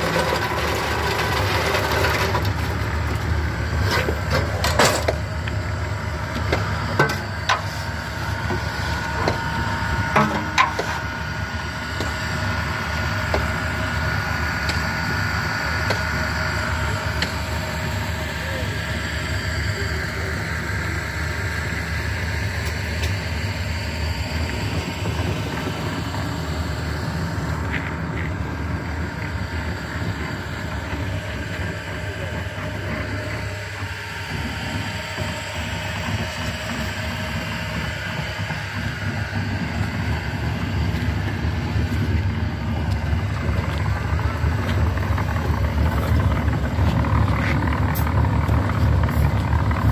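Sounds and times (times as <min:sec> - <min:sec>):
block-making machinery rumbling: 0:00.0 - 0:49.9.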